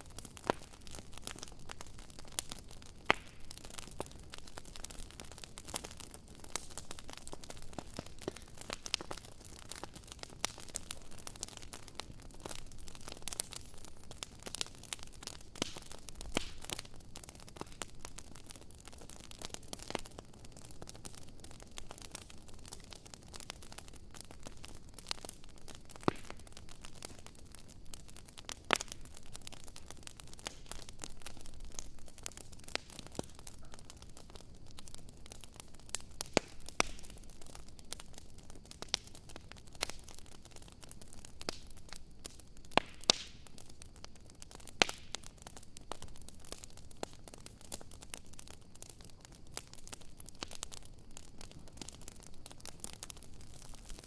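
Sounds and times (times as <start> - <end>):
bonfire crackling and popping: 0.0 - 54.0.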